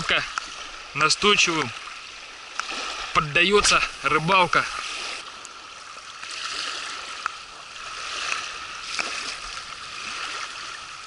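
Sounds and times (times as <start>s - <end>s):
waves lapping on gravel shore: 0.0s - 11.0s.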